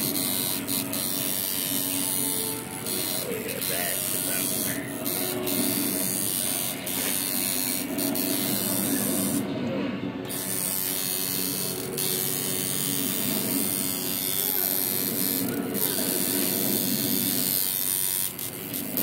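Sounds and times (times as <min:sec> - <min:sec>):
tattoo machine buzzing: 0:00.0 - 0:09.5, 0:10.2 - 0:19.0.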